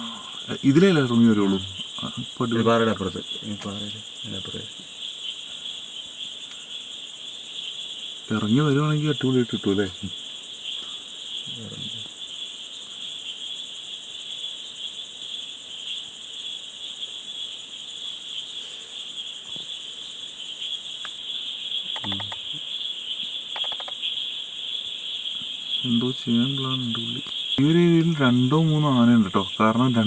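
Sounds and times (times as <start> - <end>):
crickets and insects trilling: 0.0 - 30.0.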